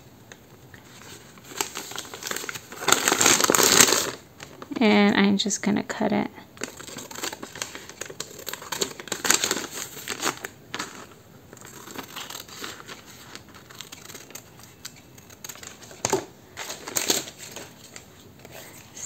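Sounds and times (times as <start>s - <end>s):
paper bag crinkling: 0.8s - 4.7s, 6.6s - 18.0s.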